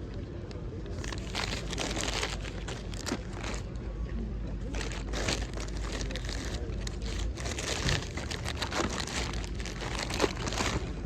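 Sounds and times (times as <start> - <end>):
distant voices: 0.0 - 11.0
rustling and crinkling handling: 0.8 - 11.0.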